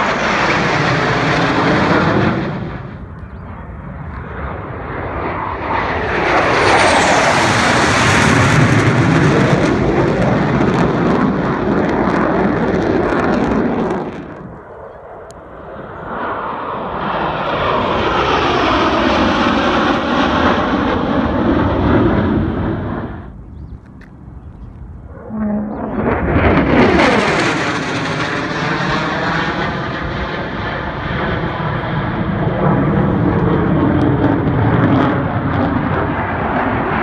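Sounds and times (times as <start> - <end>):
jet engines flying past: 0.0 - 37.0.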